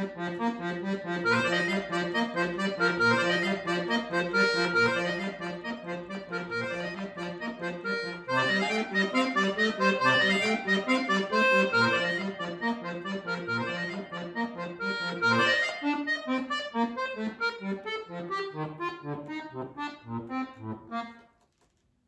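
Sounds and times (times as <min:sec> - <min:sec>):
button accordion playing solo: 0:00.0 - 0:21.2.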